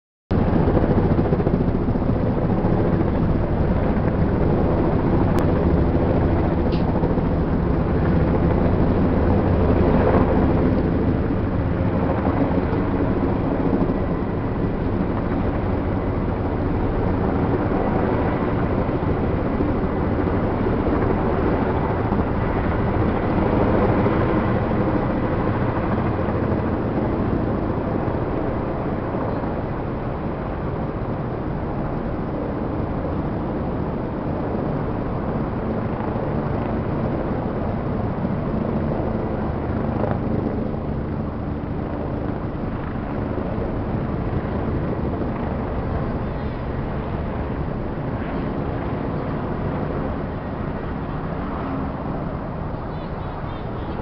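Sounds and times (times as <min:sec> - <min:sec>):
helicopter flying overhead: 0:00.3 - 0:54.0.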